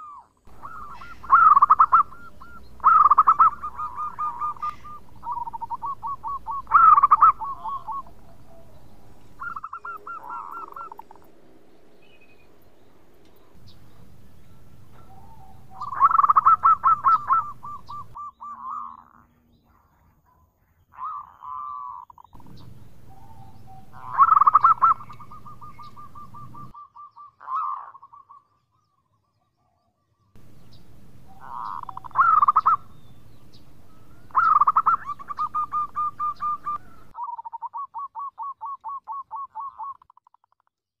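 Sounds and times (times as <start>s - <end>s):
dove cooing with stuttering trill: 0.0s - 19.3s, 20.9s - 28.5s, 30.4s - 40.6s.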